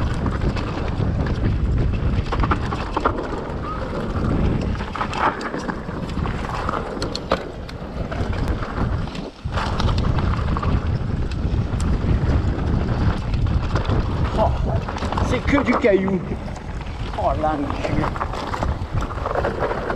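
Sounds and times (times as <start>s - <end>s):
bike rattling and clicking: 0.0s - 19.9s
wind buffeting microphone: 0.0s - 19.9s.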